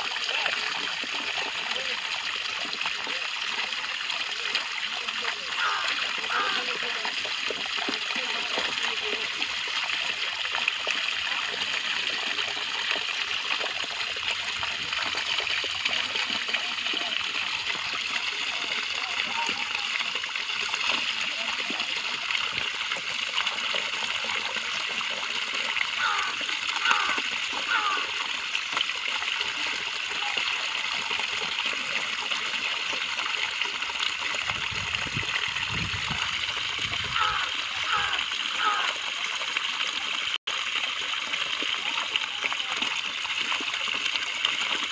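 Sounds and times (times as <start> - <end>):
water trickling into pool: 0.0 - 44.9.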